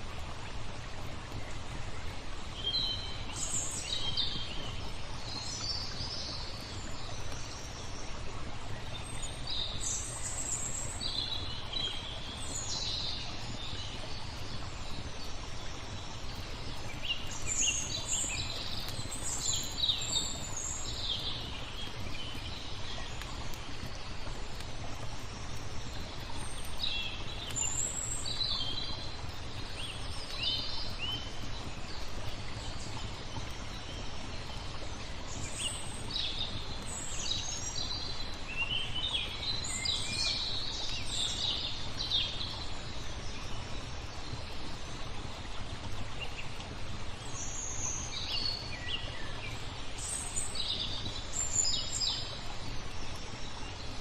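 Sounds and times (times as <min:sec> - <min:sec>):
flowing water: 0:00.0 - 0:54.0
songbirds chirping: 0:00.0 - 0:54.0.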